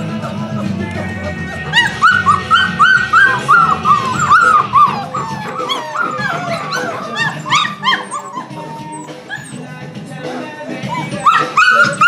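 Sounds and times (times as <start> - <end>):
puppies whining and yipping: 0.5 - 12.0.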